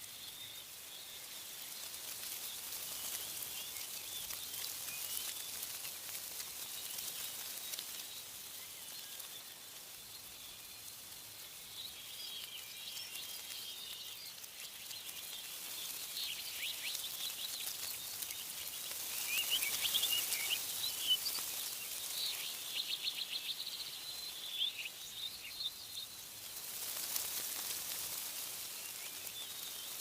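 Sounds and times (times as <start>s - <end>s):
small birds chirping and trilling: 0.0s - 30.0s
windy hiss: 0.0s - 30.0s.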